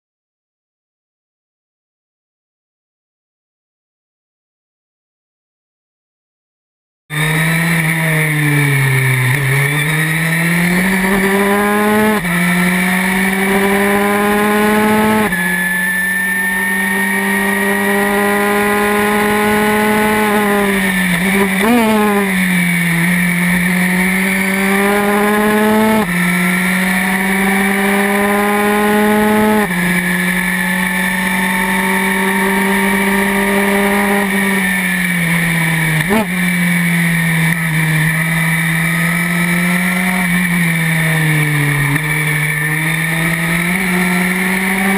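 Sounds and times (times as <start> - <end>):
race car engine revving through gears: 7.1 - 44.9.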